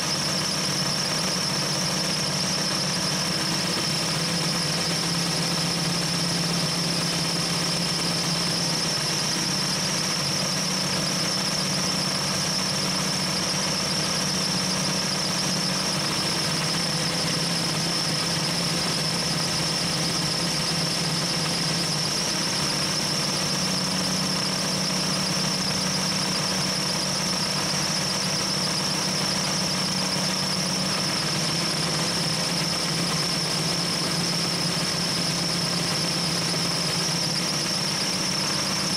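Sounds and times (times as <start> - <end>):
high whistle: 0.0 - 38.9.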